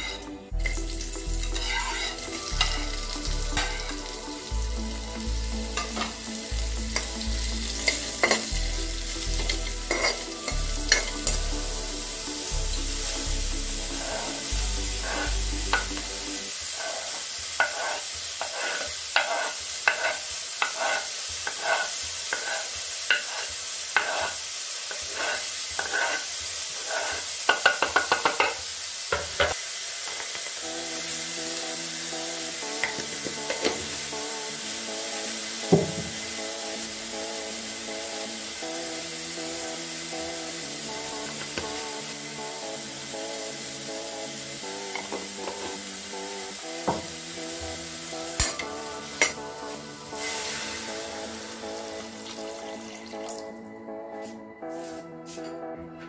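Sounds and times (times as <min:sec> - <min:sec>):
vegetables sizzling in hot oil: 0:00.0 - 0:53.4.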